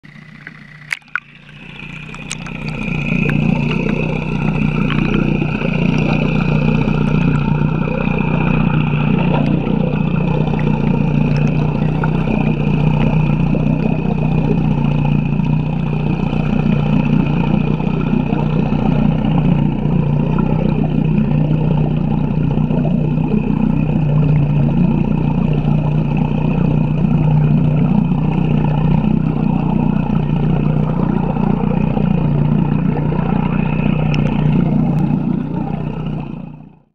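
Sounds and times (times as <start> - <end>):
outboard motor underwater drone: 0.0 - 36.9.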